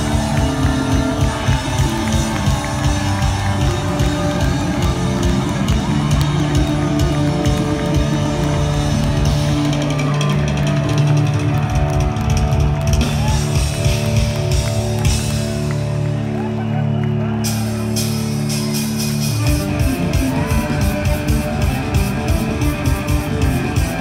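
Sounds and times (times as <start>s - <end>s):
drum kit: 0.0s - 16.4s, 17.3s - 24.0s
bass guitar: 0.0s - 24.0s
electric guitar: 0.0s - 24.0s.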